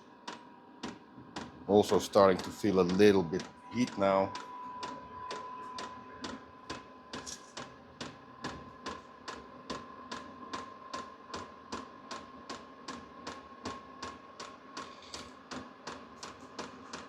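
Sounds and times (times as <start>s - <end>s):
blower fan whine: 0.0s - 17.0s.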